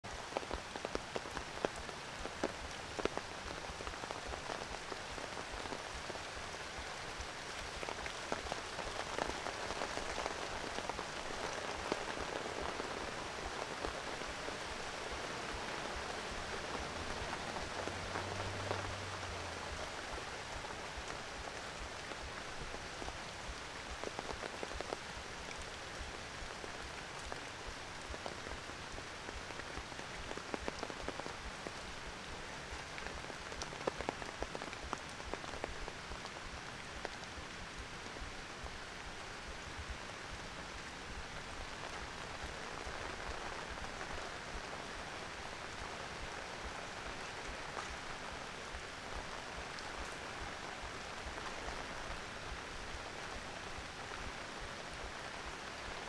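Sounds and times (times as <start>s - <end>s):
rain on foliage and pavement: 0.0s - 56.0s.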